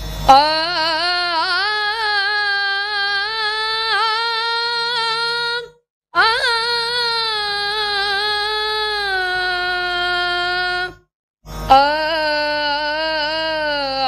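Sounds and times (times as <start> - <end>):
girl singing: 0.3 - 11.1, 11.7 - 14.0.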